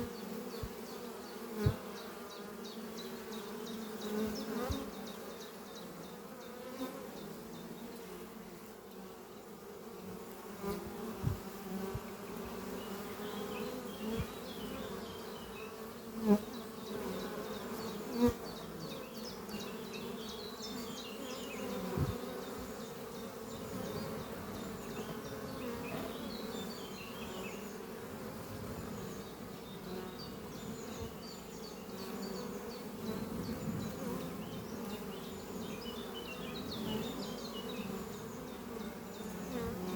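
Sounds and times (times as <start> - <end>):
bees buzzing: 0.0 - 39.9
single bee buzzing past: 0.0 - 39.9.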